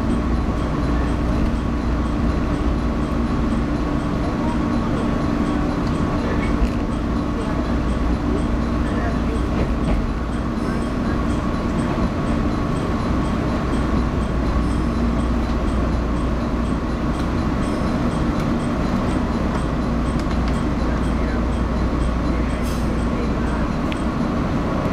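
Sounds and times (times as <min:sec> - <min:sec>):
electric train rumble and hum: 0:00.0 - 0:24.9
faint regular ticking: 0:00.1 - 0:24.9.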